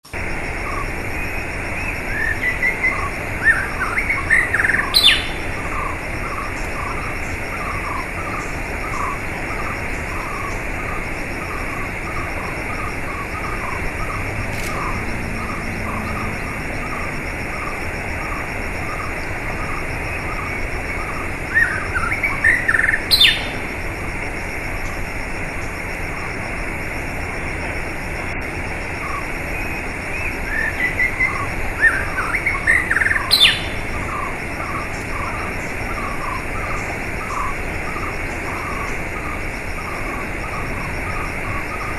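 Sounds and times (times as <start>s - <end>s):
birds chirping: 0.5s - 26.6s, 27.2s - 41.9s
bird rising calls: 0.6s - 23.7s, 29.0s - 41.9s.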